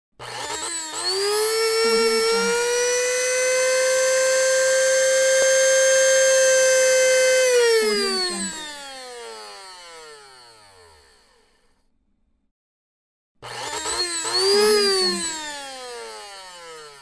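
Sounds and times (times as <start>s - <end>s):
coffee grinder motor whine: 0.2s - 11.6s, 13.4s - 17.0s.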